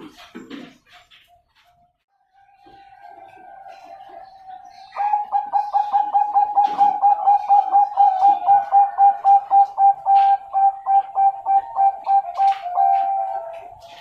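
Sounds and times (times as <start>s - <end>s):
dove cooing: 2.7s - 14.0s.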